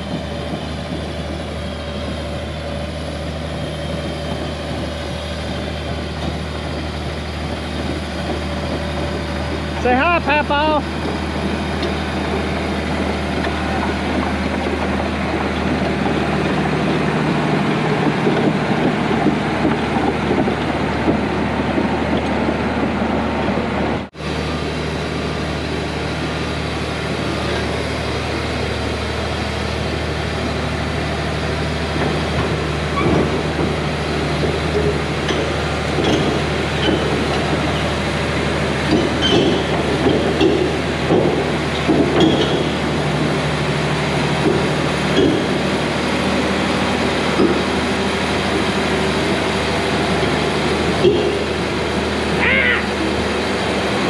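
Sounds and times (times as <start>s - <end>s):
diesel engine running: 0.0s - 54.0s
steel tracks clattering: 0.0s - 54.0s.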